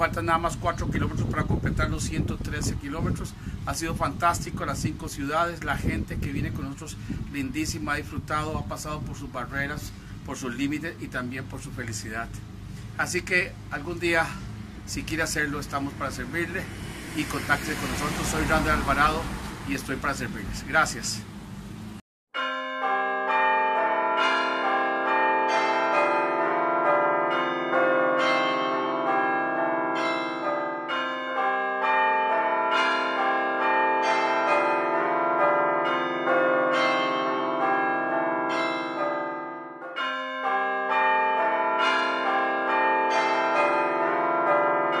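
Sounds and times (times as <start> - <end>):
church bells pealing: 7.5 - 21.0, 22.4 - 45.0.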